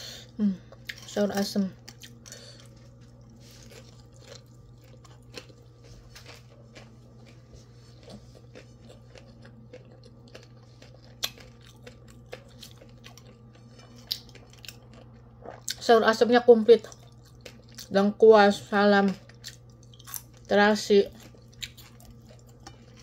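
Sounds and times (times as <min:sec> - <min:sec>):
steady low hum: 0:00.0 - 0:23.0
person chewing: 0:00.2 - 0:15.9, 0:16.8 - 0:17.9, 0:19.2 - 0:23.0.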